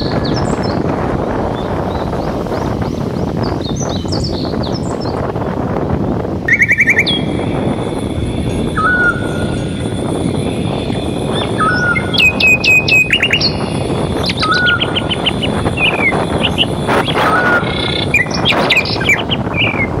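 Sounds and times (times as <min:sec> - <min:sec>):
birds calling and chirping: 0:00.0 - 0:20.0
wind rushing: 0:00.0 - 0:20.0.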